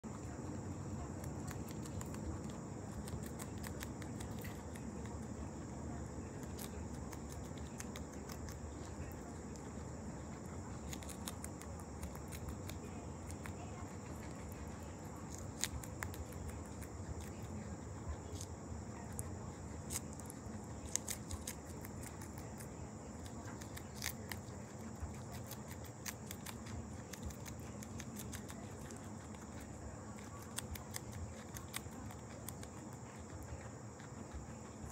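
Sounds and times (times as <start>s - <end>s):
guinea pig chewing lettuce: 0.0s - 34.9s.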